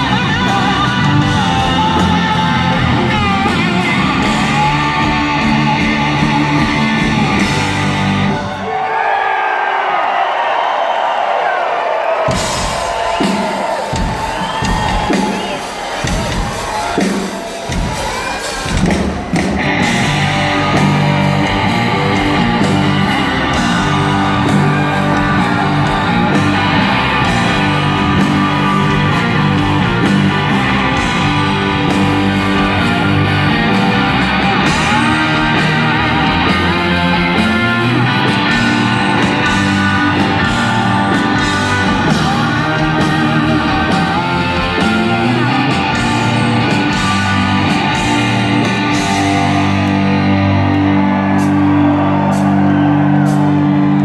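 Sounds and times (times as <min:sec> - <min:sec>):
live rock band playing loudly: 0:00.0 - 0:08.7, 0:12.3 - 0:54.0.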